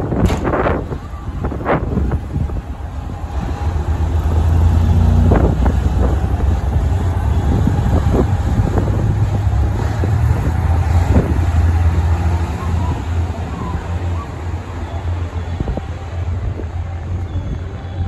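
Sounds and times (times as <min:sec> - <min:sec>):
diesel train engine droning: 0:00.0 - 0:18.0
wind buffeting microphone: 0:00.0 - 0:18.0.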